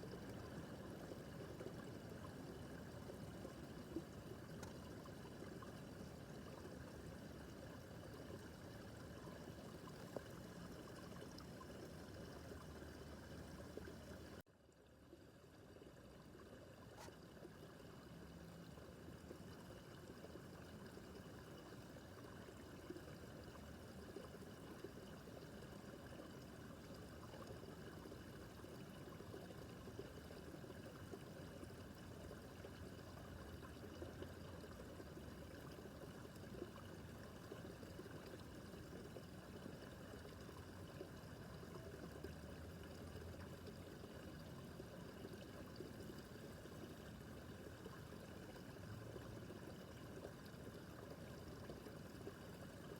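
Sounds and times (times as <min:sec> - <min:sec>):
babbling brook: 0:00.0 - 0:52.9.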